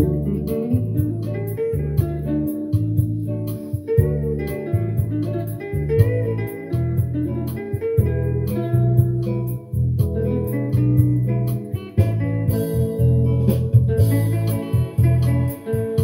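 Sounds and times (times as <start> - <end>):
blues electric guitar: 0.0 - 16.0.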